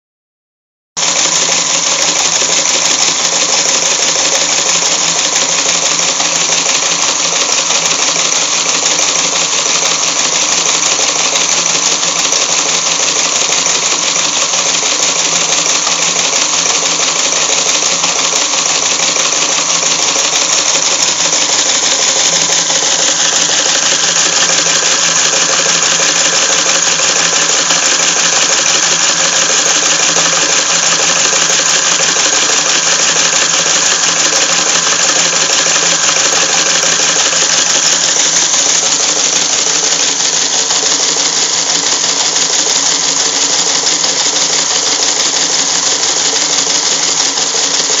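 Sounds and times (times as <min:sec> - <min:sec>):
teletype machine clattering: 0:01.0 - 0:48.0.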